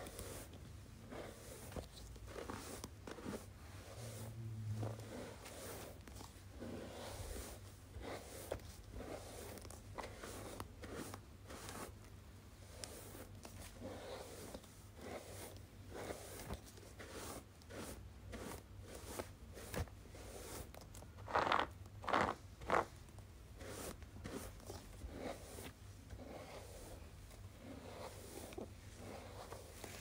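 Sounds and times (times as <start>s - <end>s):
hairbrush strokes: 0.0s - 30.0s.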